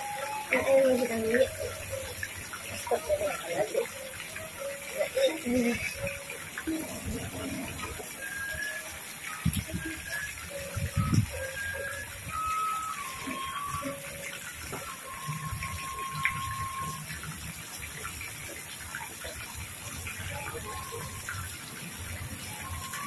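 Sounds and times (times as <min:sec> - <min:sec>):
water jet splashing into pond: 0:00.0 - 0:23.0.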